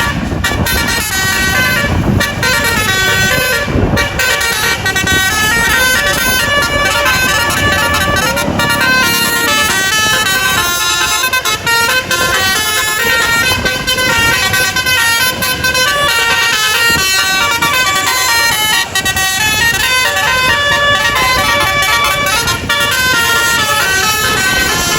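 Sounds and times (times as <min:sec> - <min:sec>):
multi-trumpet bus horn melody: 0:00.0 - 0:24.9.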